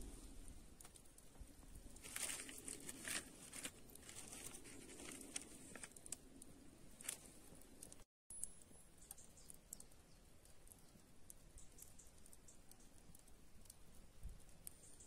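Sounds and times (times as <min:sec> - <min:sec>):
campfire embers crackling: 0:00.0 - 0:15.0.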